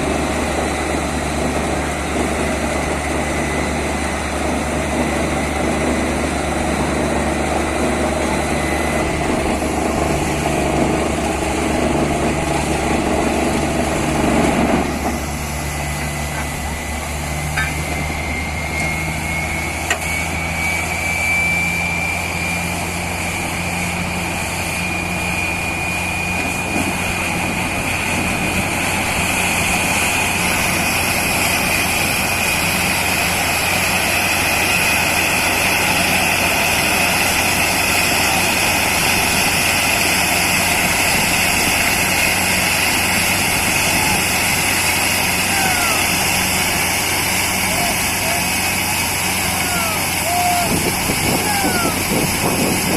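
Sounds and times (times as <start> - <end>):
drilling rig engine drone: 0.0 - 52.9
high-pitched compressor whine: 0.0 - 52.9.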